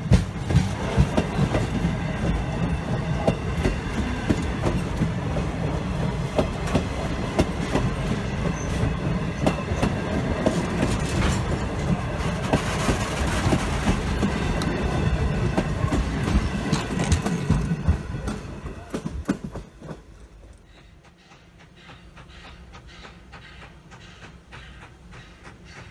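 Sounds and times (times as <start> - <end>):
train rumble: 0.0 - 25.9
train wheels clacking over rail joints: 0.0 - 25.9.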